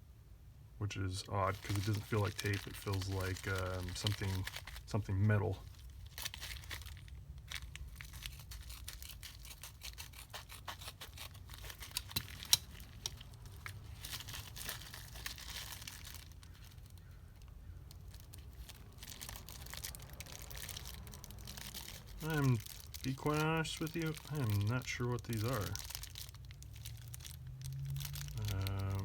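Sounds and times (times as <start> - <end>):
package wrapping tearing and crinkling: 1.3 - 29.0.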